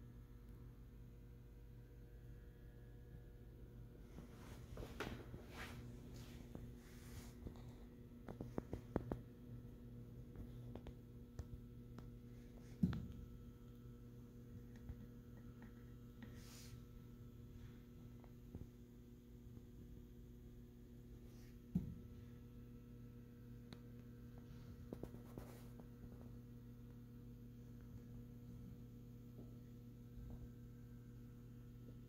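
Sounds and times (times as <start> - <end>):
faint electrical hum: 0.0 - 32.0.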